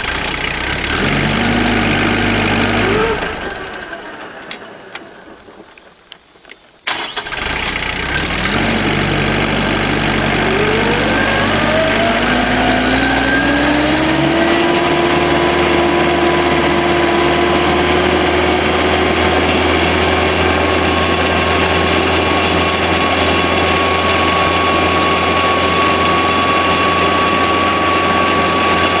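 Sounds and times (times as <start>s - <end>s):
tractor engine starting and running: 0.0s - 29.0s.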